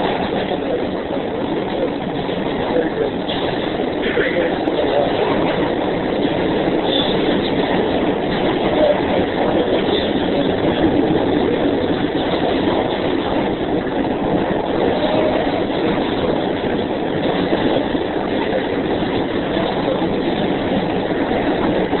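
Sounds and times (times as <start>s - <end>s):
train rumbling and rattling: 0.0s - 22.0s.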